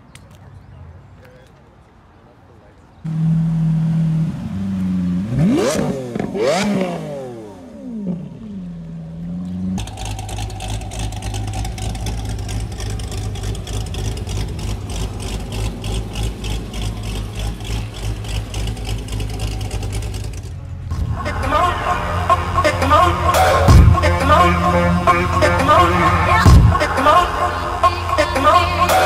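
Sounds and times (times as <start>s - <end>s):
car engine idling: 3.1s - 29.0s
sports car engine revving: 3.1s - 29.0s.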